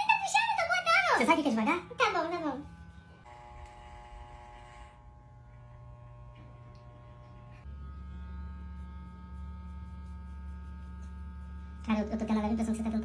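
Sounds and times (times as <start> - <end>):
electric hair clipper buzzing: 1.2 - 13.0.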